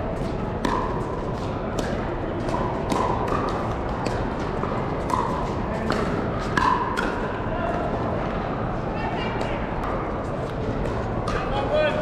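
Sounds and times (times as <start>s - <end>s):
large hall din: 0.0s - 12.0s
paddles hitting ball: 0.2s - 7.4s, 9.4s - 12.0s.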